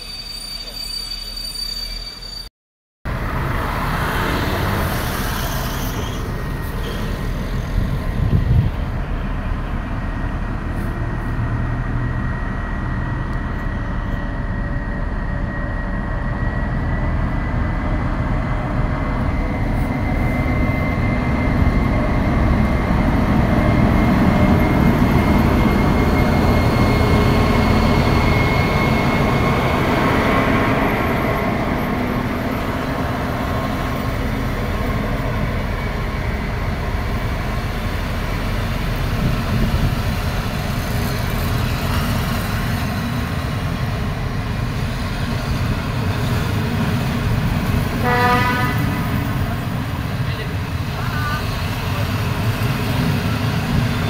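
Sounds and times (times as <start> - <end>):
diesel locomotive engine: 3.1 - 54.0.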